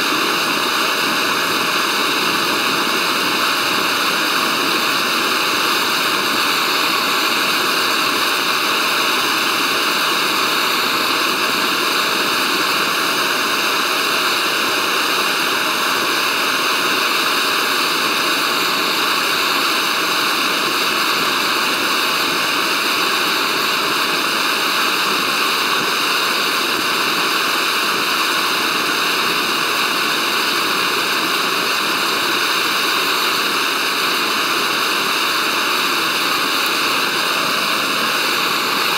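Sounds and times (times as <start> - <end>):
gas stove hissing: 0.0 - 38.9.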